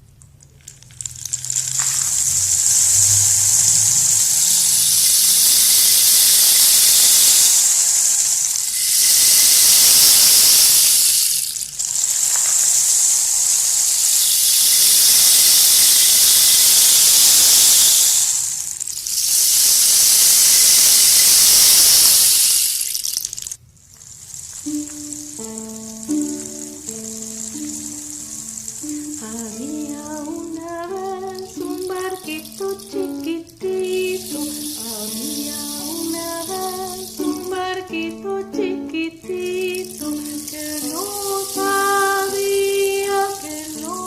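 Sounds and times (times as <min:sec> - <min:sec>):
water rushing: 0:00.6 - 0:37.8, 0:39.5 - 0:44.0.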